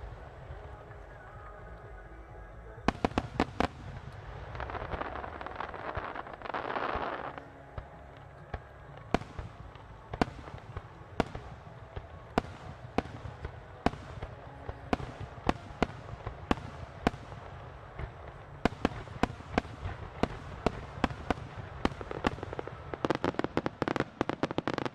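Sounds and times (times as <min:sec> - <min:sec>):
fireworks bangs: 0:00.0 - 0:24.9
fireworks crackling: 0:00.0 - 0:24.9.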